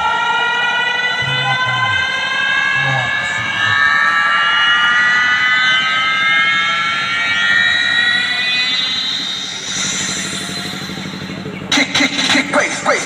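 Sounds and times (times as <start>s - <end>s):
siren-like tone sweep: 0.0s - 13.0s.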